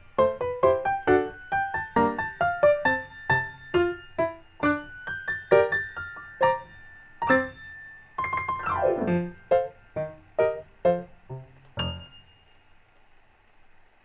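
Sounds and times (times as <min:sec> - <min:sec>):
gentle piano melody: 0:00.0 - 0:12.8.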